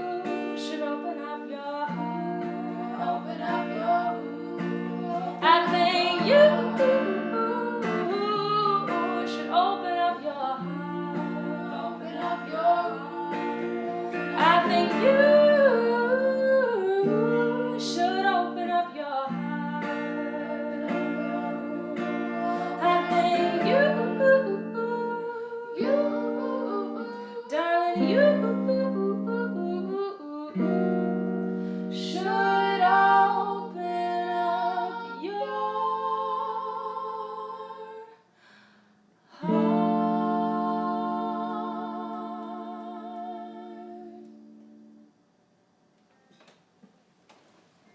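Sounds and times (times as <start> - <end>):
acoustic guitar chords: 0.0 - 37.7, 38.5 - 45.3
woman singing: 0.0 - 38.3, 39.3 - 44.5.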